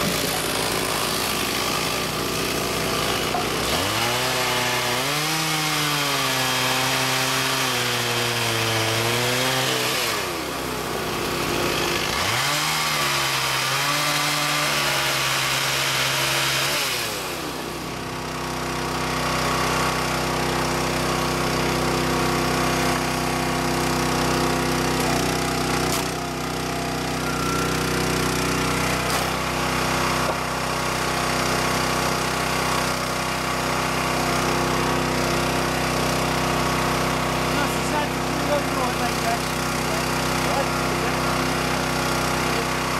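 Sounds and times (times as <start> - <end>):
chainsaw cutting logs: 0.0 - 42.9
small engine running steadily: 0.0 - 42.9.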